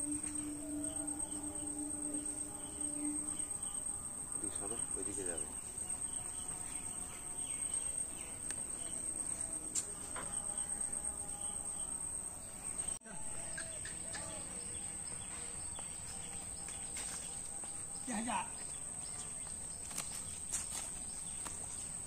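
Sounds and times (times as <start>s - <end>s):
faint background sounds: 0.0s - 22.0s
insects trilling: 0.0s - 22.0s.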